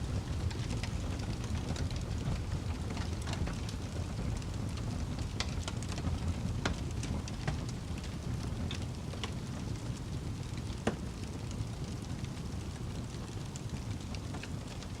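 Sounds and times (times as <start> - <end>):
campfire crackling and popping: 0.1 - 15.0.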